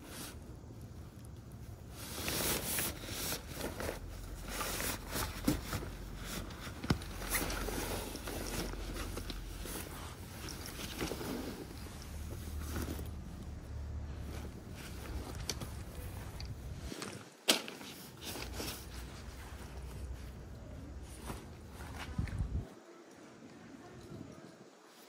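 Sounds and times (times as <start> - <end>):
fabric bag rustling: 1.8 - 22.4.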